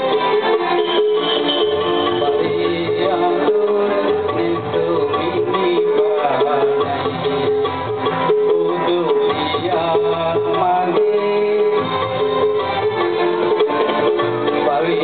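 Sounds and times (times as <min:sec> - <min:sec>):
band playing devotional song: 0:00.0 - 0:15.0
plucked-string melody: 0:00.0 - 0:15.0.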